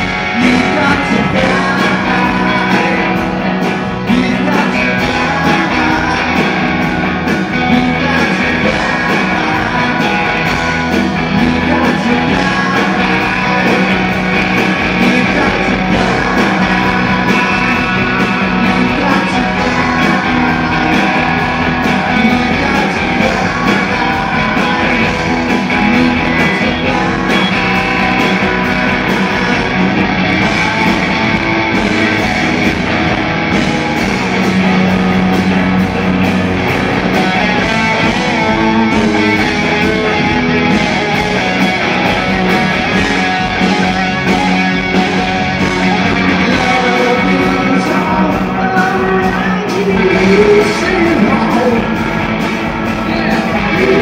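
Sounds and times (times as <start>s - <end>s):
person singing: 0.0s - 31.0s, 37.1s - 54.0s
bass: 0.0s - 54.0s
drums: 0.0s - 54.0s
electric guitars: 0.0s - 54.0s.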